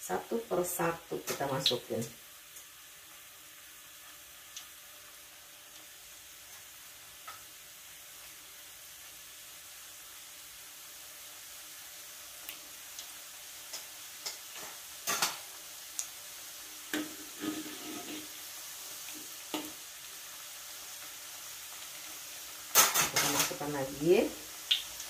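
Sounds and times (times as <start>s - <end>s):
pastries sizzling in oil: 0.0s - 25.0s.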